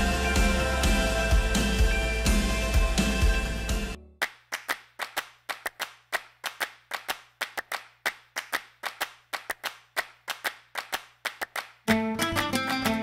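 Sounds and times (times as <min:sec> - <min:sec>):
rhythmic hand claps: 0:00.0 - 0:13.0.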